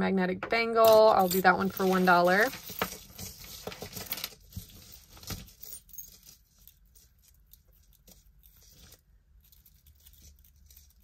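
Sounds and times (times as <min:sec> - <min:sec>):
metal jewelry clinking: 0:00.8 - 0:11.0.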